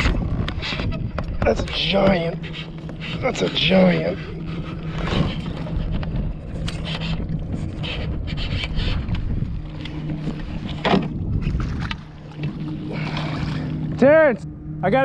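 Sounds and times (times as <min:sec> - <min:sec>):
wind rumbling on microphone: 0:00.0 - 0:14.1.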